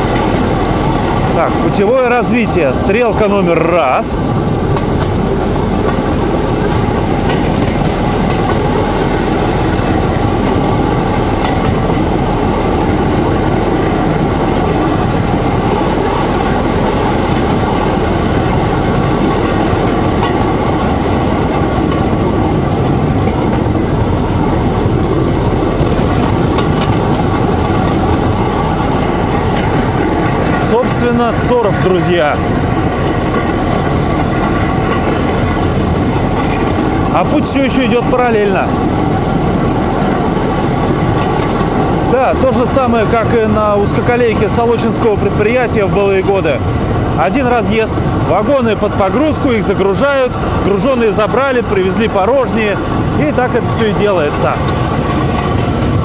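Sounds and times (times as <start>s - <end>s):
rail trolley engine drone: 0.0s - 56.0s
wheels rolling on rails: 0.0s - 56.0s.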